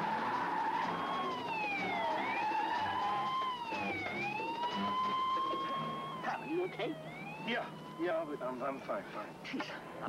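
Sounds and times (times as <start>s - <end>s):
wailing siren: 0.0s - 10.0s.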